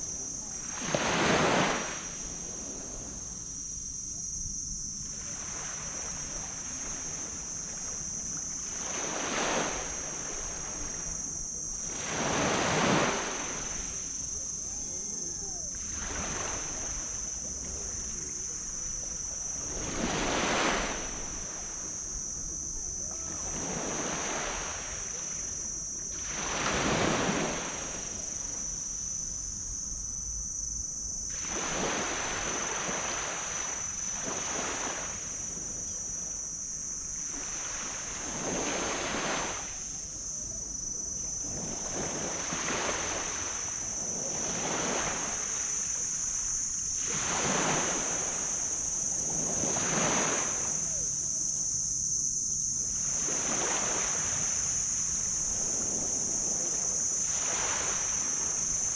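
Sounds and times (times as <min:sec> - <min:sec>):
small waves breaking on sand: 0:00.0 - 0:30.1, 0:31.1 - 0:58.9
steady high-pitched hiss: 0:00.0 - 0:58.9.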